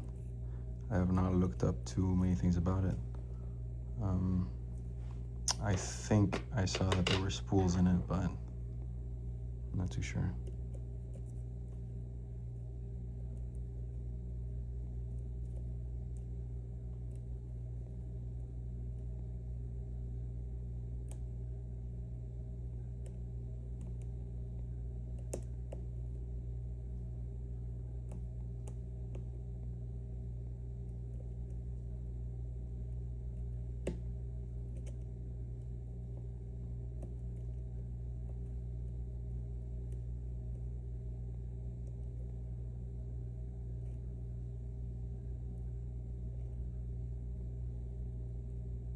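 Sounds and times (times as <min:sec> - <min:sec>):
low background hum: 0:00.0 - 0:48.9.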